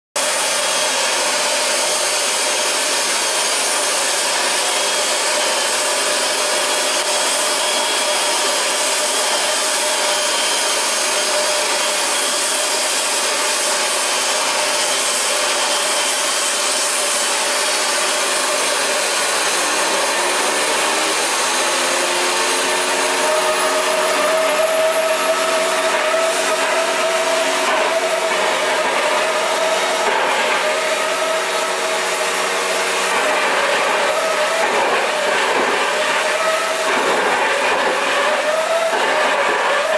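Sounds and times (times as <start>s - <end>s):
jet engine rushing with whine: 0.2s - 39.9s.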